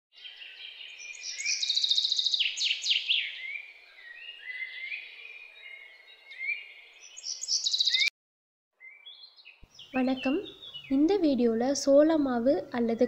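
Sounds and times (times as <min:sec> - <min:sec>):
birds chirping and trilling: 0:00.1 - 0:08.1, 0:08.7 - 0:13.0.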